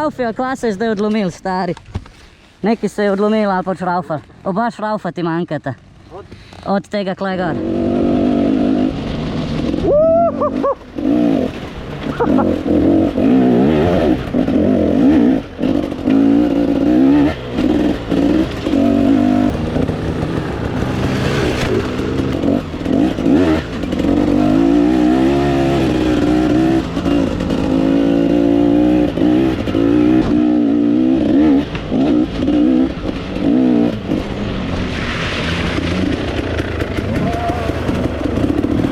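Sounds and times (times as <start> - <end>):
dirt bike engine revving: 7.3 - 38.9.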